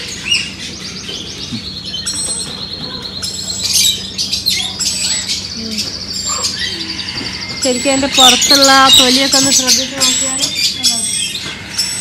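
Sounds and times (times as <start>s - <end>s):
caged birds chirping and trilling: 0.0s - 12.0s.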